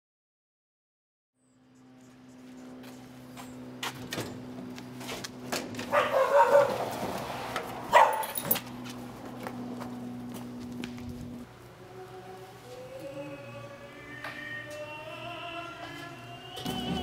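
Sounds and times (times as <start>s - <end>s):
steady low hum: 1.4s - 17.0s.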